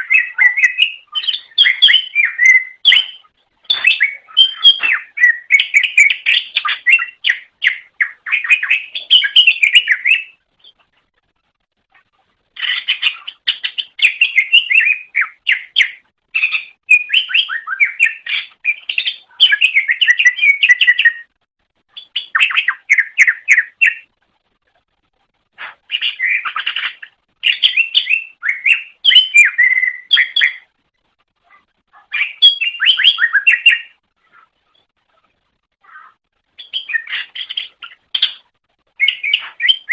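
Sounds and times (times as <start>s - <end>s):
bird singing rapid chattering phrases: 0.0s - 10.9s, 12.5s - 24.2s, 25.6s - 30.8s, 31.5s - 35.2s, 35.8s - 39.9s.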